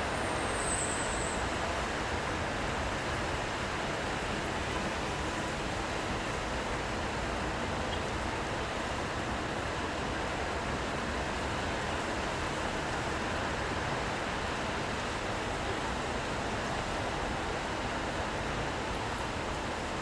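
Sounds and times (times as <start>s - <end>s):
rain: 0.0s - 20.0s.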